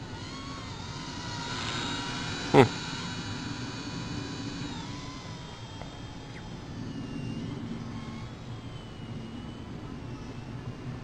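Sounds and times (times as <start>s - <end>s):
rc helicopter motor whine: 0.0s - 11.0s.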